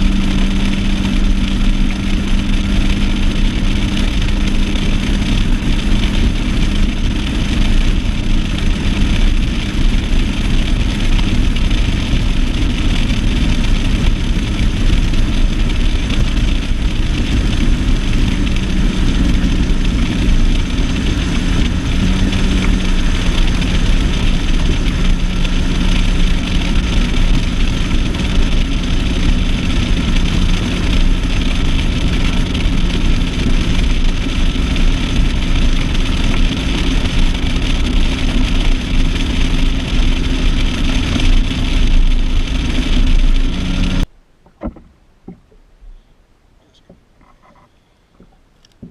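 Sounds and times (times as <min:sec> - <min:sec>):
outboard motor running: 0:00.0 - 0:46.0, 0:46.6 - 0:48.9.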